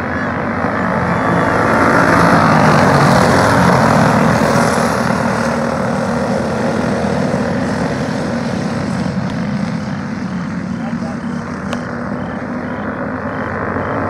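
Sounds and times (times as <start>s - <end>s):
race car engines buzzing: 0.0s - 14.0s.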